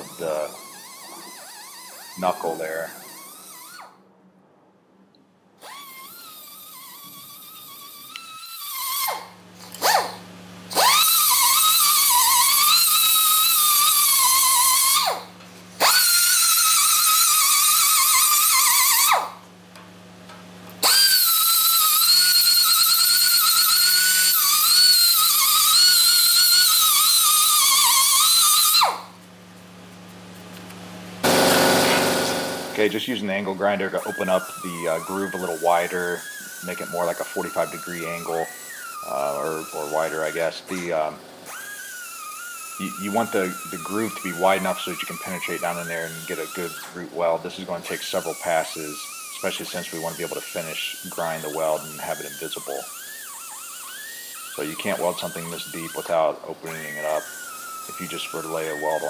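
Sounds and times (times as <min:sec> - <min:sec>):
cutoff wheel cutting metal: 0:00.0 - 0:04.0, 0:05.6 - 0:19.4, 0:20.7 - 0:29.1, 0:31.2 - 0:59.0.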